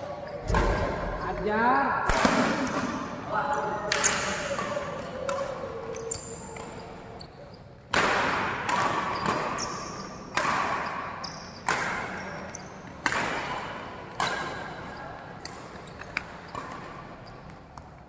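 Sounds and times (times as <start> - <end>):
rackets hitting shuttlecock: 2.0 - 7.0, 7.8 - 18.0.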